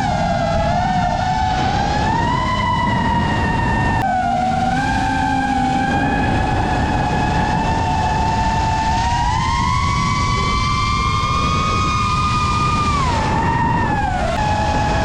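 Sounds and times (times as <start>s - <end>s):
drone motors whining: 0.0s - 15.0s
heavy wind rush: 0.0s - 15.0s.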